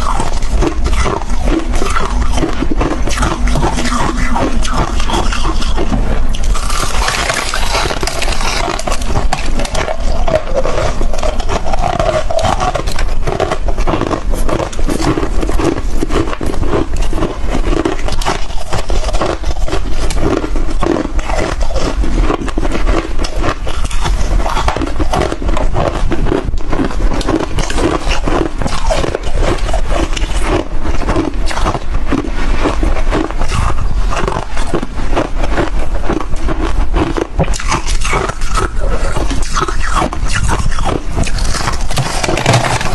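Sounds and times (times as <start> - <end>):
frost being bitten and chewed: 0.0 - 42.9.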